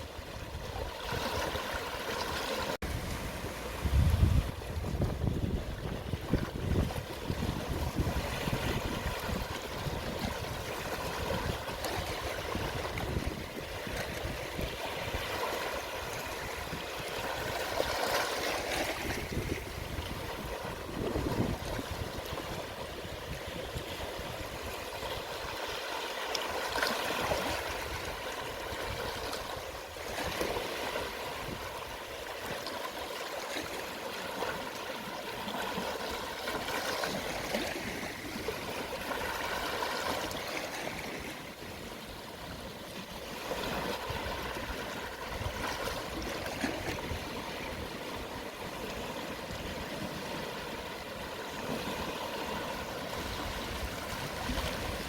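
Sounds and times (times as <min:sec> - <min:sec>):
gentle sea waves washing in: 0:00.0 - 0:55.0.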